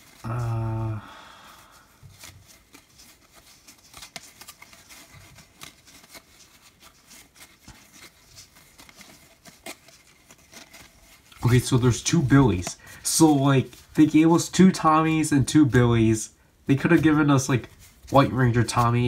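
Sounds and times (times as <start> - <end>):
playing cards clicking and sliding: 1.8 - 16.1, 16.7 - 19.0.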